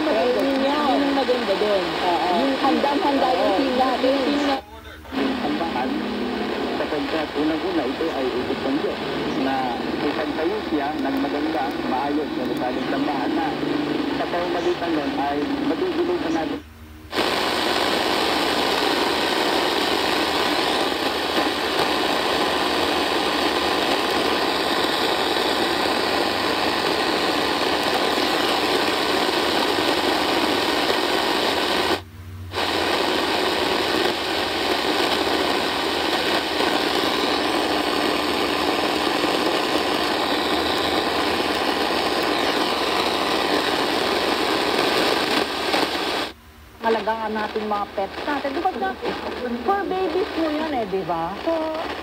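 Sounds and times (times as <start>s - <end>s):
radio static hiss: 0.0s - 52.0s.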